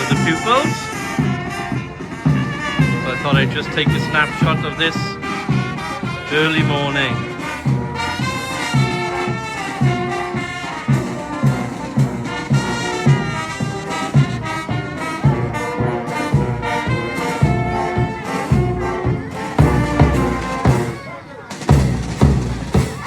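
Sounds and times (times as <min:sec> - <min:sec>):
brass band playing lively tune: 0:00.0 - 0:23.0.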